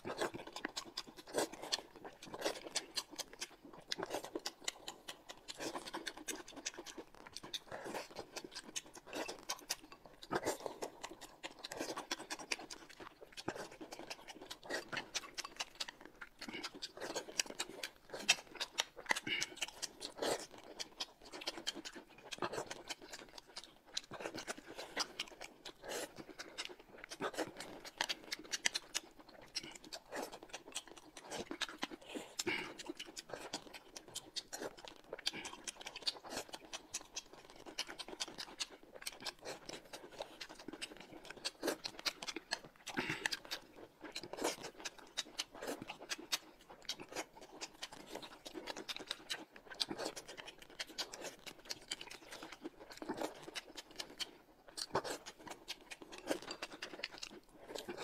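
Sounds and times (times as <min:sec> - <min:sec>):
chewing and mouth noises: 0:00.0 - 0:58.0.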